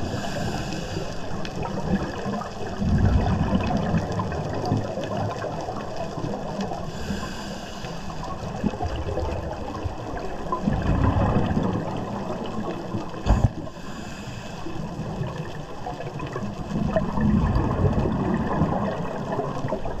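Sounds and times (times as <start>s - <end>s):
underwater exhaled bubbles: 0.0s - 20.0s.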